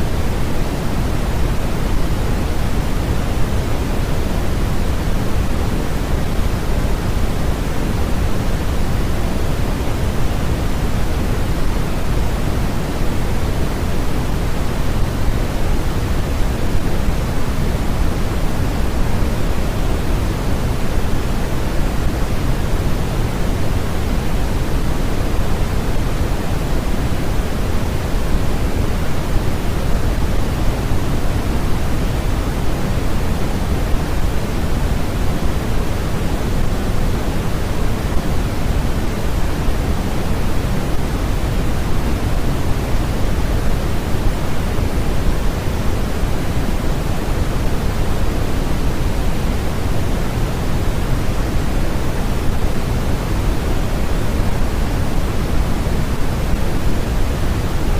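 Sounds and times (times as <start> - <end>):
deep white noise hiss: 0.0 - 57.9.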